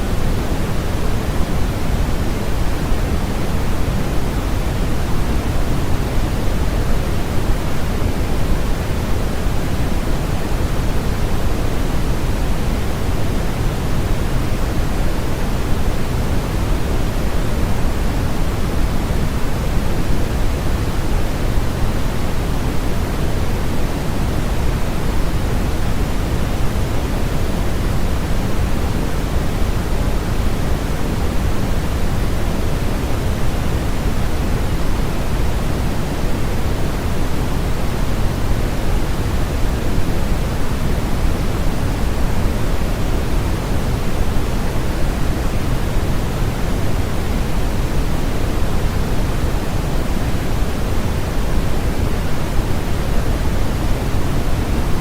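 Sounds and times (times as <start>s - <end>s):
low-weighted steady hiss: 0.0s - 55.0s.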